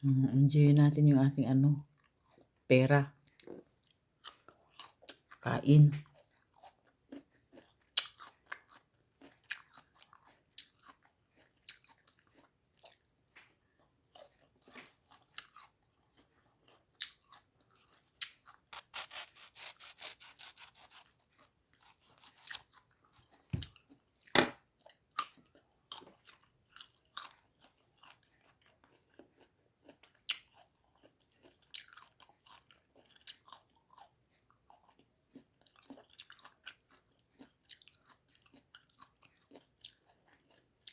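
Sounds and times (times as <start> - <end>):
crunching crisp mango: 6.0 - 40.9.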